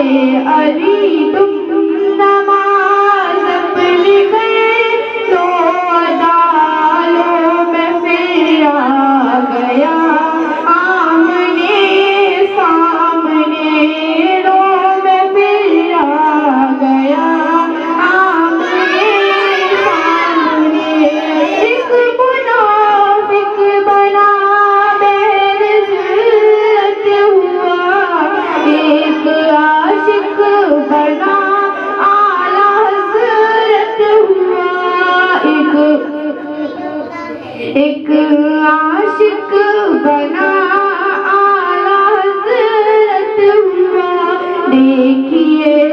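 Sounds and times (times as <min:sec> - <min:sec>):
woman singing devotional song: 0:00.0 - 0:37.0, 0:37.6 - 0:45.9.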